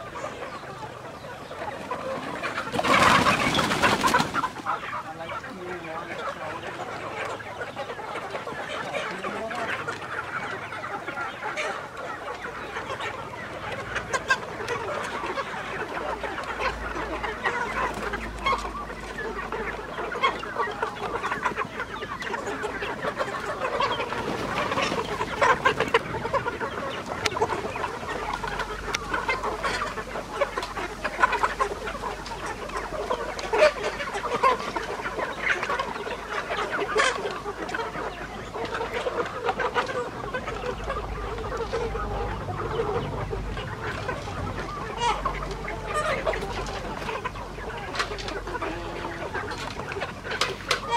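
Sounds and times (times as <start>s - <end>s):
chicken squawks: 0.0s - 50.9s
chickens clucking: 0.0s - 50.9s.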